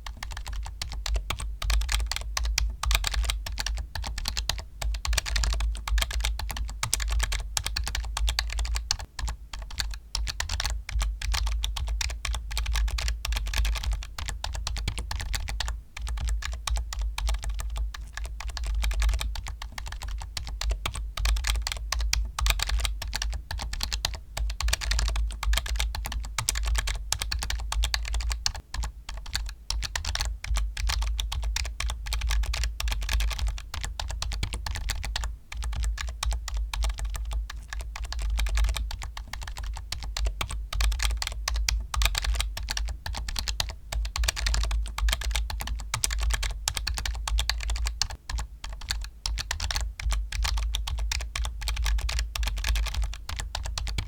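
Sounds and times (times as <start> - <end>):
computer keyboard typing: 0.0 - 54.0.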